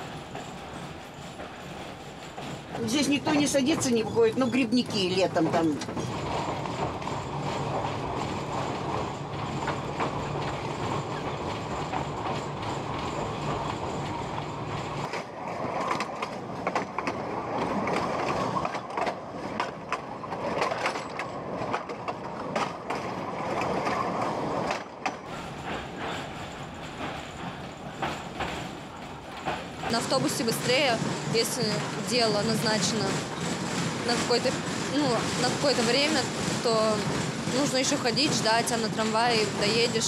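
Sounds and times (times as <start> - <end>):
tram hum and rumble: 0.0 - 40.0
wheels clattering over track: 0.0 - 40.0.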